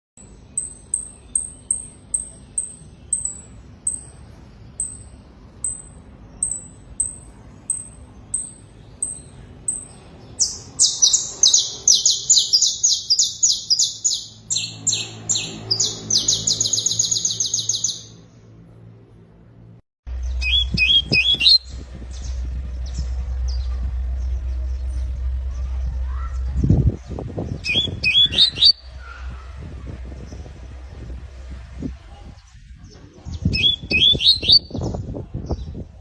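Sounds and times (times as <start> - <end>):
canary singing: 0.2 - 18.3, 20.1 - 31.8, 32.4 - 35.0.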